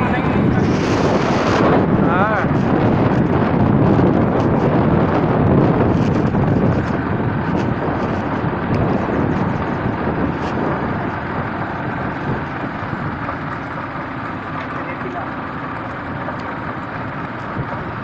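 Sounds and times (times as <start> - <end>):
wind on microphone: 0.0 - 14.6, 15.6 - 18.0
moving vehicle rushing noise: 0.0 - 18.0.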